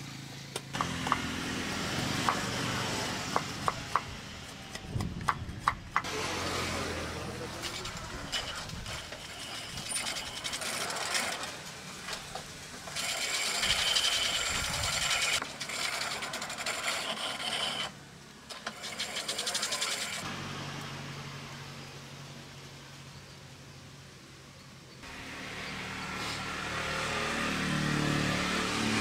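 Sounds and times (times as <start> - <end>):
wood grinding on grinding wheel: 0.7 - 20.3, 25.0 - 29.0.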